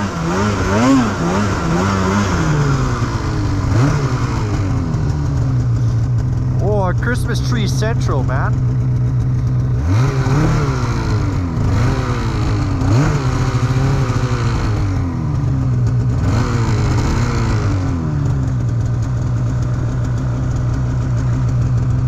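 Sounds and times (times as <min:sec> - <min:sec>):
snowmobile engine revving: 0:00.0 - 0:21.9.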